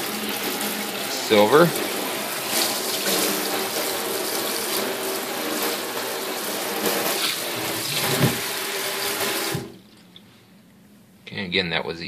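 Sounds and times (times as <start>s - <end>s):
tap water running into sink: 0.0s - 9.8s.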